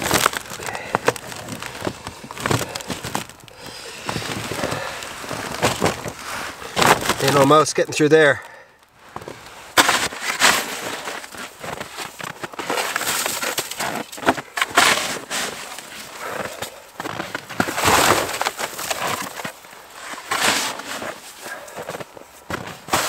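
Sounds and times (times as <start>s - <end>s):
snow crunching: 0.0s - 23.0s.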